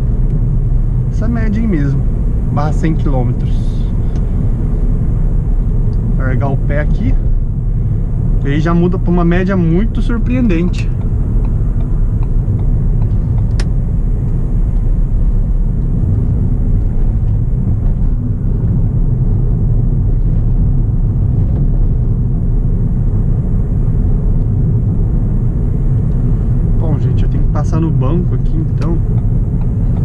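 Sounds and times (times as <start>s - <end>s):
engine and road noise in car: 0.0s - 30.0s.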